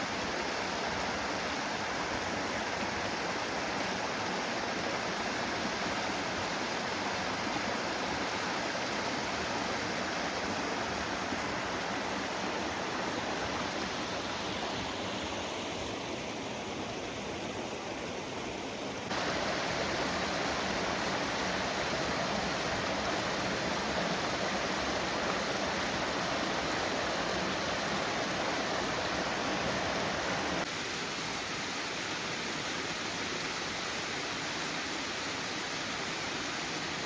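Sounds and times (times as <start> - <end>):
waterfall rushing: 0.0 - 32.1.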